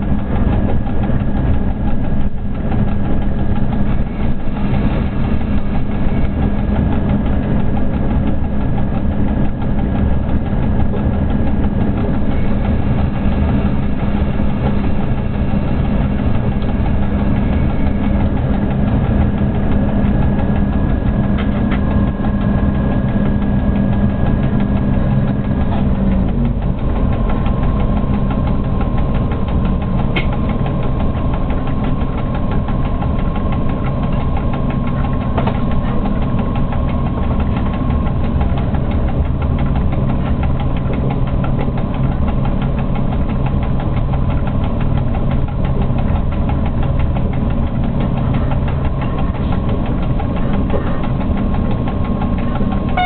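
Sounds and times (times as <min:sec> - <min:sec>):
locomotive cab rumble: 0:00.0 - 0:53.0
low hum: 0:00.0 - 0:53.0.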